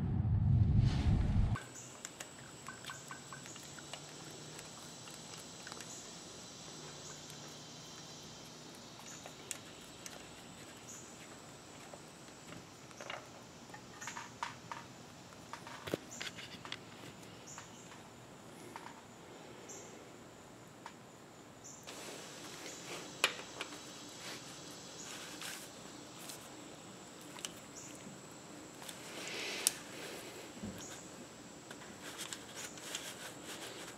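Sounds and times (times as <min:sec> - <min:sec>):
low steady hiss: 0:00.0 - 0:33.9.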